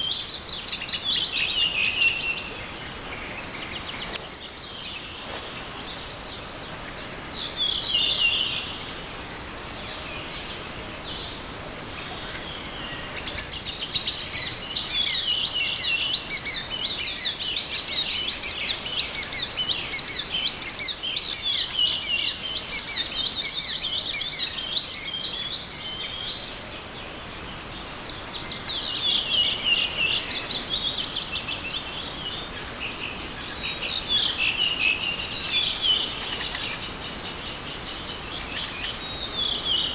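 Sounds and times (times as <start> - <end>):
small river rushing: 0.0 - 39.9
songbirds twittering: 0.0 - 39.9.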